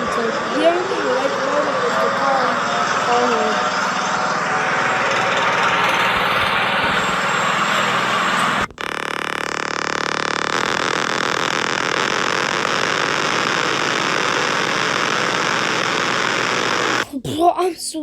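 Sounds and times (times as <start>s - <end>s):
alarm with held buzzing tones: 0.0s - 17.0s
noisy emergency alert: 0.0s - 17.0s.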